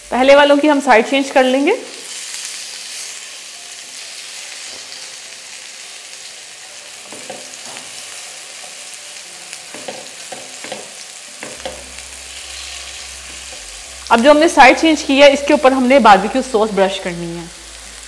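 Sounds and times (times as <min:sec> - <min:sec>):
kebabs sizzling in oil: 0:00.0 - 0:18.0.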